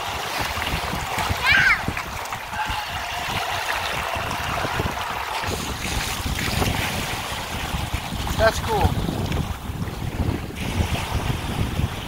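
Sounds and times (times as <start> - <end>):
small waves washing on beach: 0.0 - 12.0
wind rumbling on microphone: 0.0 - 12.0.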